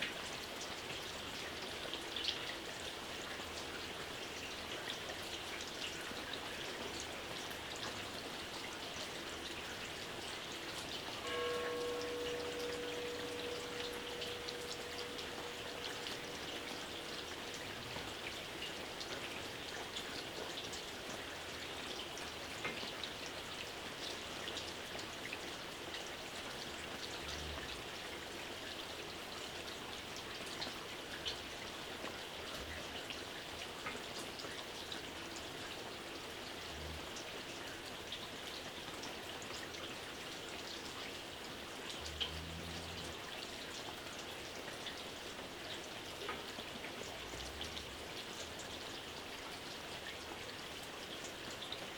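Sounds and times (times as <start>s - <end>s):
light rain pattering: 0.0s - 51.9s.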